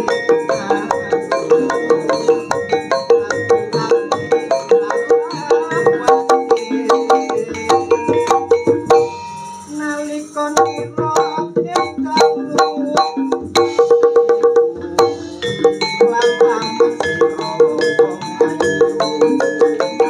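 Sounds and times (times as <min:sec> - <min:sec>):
hand drum: 0:00.0 - 0:20.0
metallophones struck: 0:00.0 - 0:20.0.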